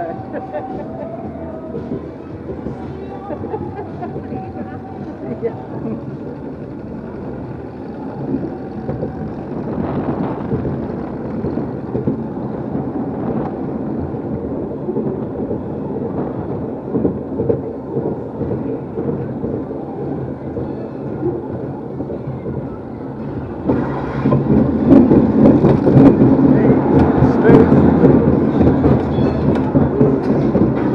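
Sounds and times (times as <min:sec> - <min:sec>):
amusement ride rumbling: 0:00.0 - 0:30.9
ride cars rattling and knocking: 0:00.0 - 0:30.9.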